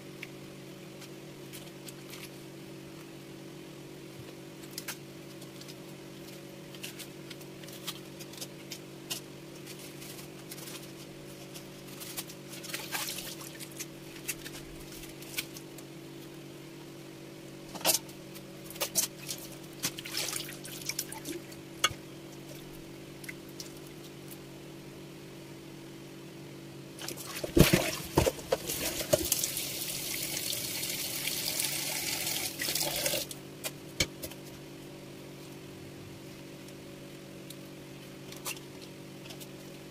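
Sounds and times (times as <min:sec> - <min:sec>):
steady motor hum: 0:00.0 - 0:39.9.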